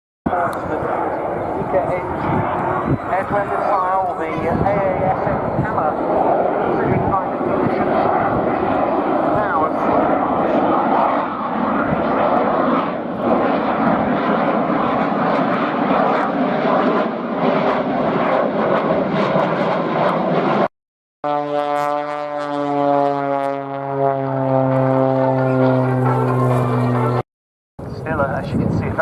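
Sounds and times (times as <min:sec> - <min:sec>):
aircraft roar: 0:00.3 - 0:27.2, 0:27.8 - 0:29.0
propeller plane engine droning: 0:00.3 - 0:27.2, 0:27.8 - 0:29.0.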